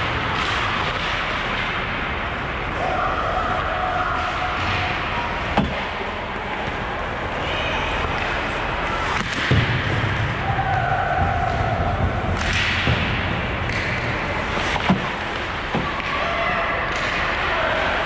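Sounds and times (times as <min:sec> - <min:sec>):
arena noise: 0:00.0 - 0:18.0
hockey sticks and puck clacking: 0:00.0 - 0:18.0.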